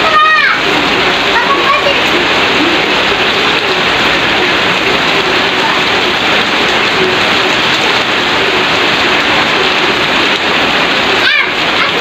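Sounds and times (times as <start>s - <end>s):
heavy rain on floodwater: 0.0s - 12.0s.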